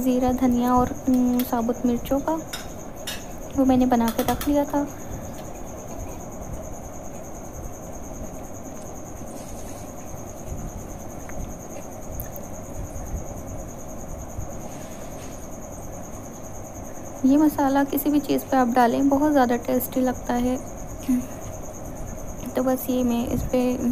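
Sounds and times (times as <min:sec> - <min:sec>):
high-pitched insect trill: 0:00.0 - 0:23.9.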